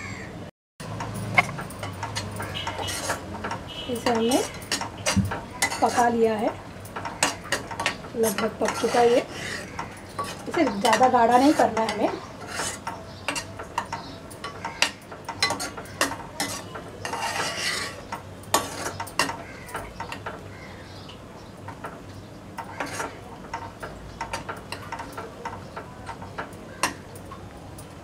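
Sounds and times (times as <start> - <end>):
metal spoon scraping a pan: 0.9 - 20.4, 22.6 - 27.4.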